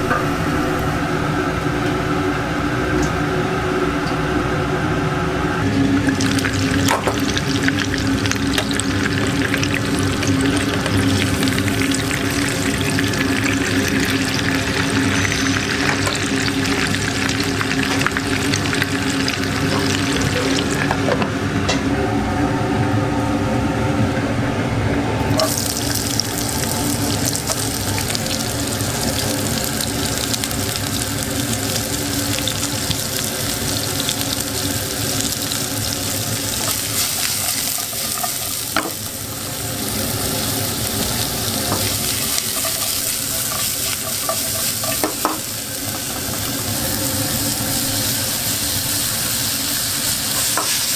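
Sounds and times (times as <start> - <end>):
food frying in hot oil: 5.6 - 21.1, 25.4 - 50.9.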